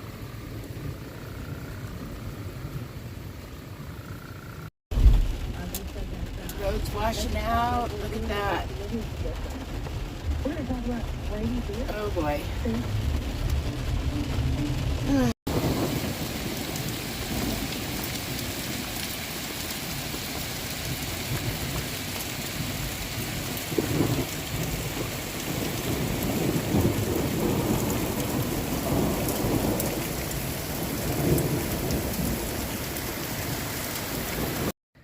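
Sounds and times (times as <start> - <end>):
low rumbles: 0.0 - 32.8
heavy rain: 0.0 - 34.8.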